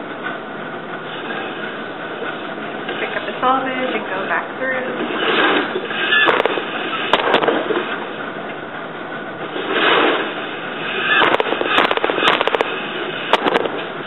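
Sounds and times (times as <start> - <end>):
rushing noise: 0.0 - 14.0.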